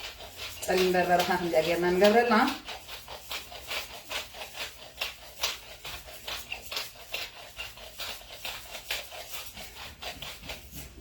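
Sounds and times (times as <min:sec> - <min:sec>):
utensil scraping food in a bowl: 0:00.0 - 0:11.0.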